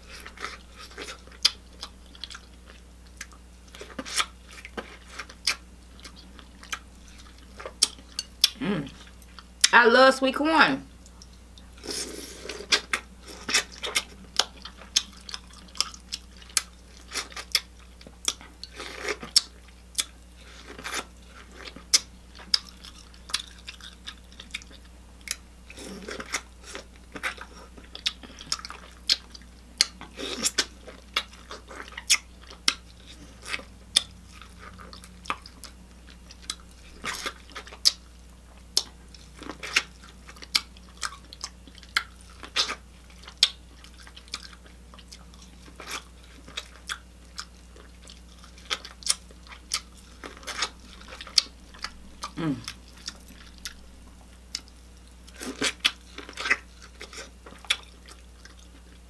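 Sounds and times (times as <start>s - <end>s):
person chewing and lip smacking: 0.0s - 9.8s, 11.0s - 59.0s.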